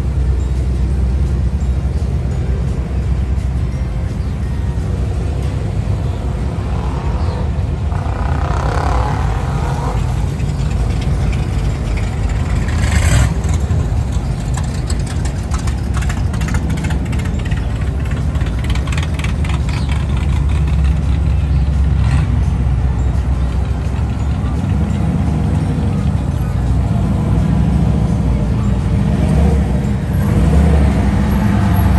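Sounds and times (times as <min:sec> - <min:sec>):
car engines rumbling: 0:00.0 - 0:31.9.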